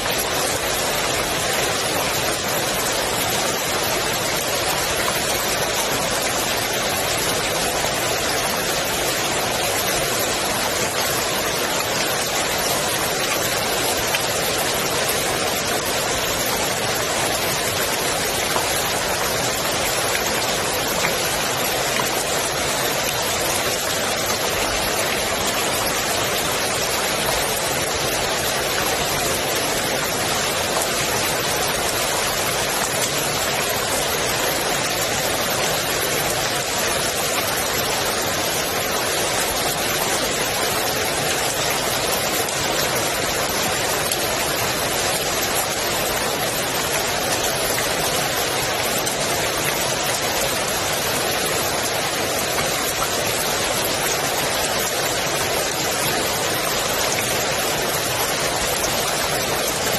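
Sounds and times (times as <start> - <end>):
rain falling on pool water: 0.0 - 59.9.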